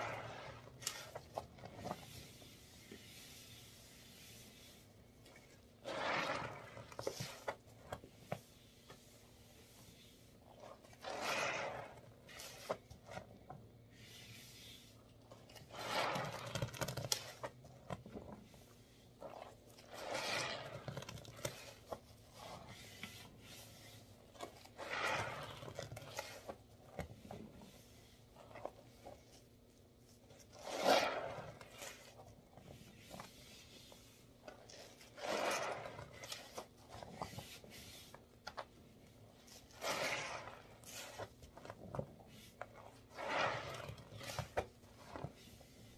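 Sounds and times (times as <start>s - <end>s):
wet squishing of detergent paste: 0.0s - 45.9s.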